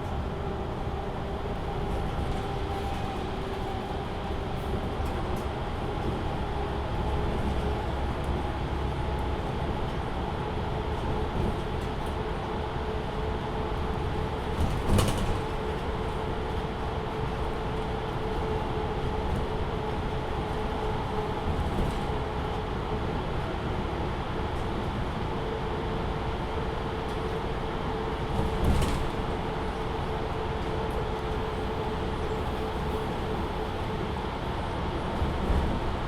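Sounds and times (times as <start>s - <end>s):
bus engine rumble: 0.0s - 36.0s.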